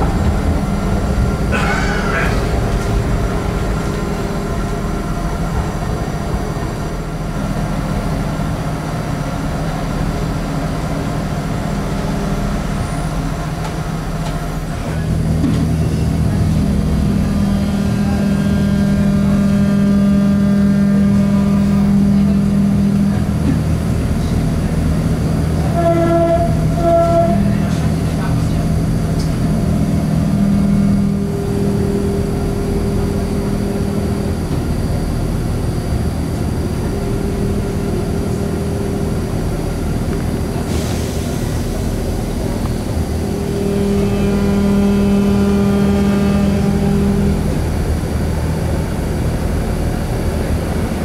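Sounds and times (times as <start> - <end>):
traction equipment hum: 0.0 - 51.0
wheel-on-rail rumble: 0.0 - 51.0.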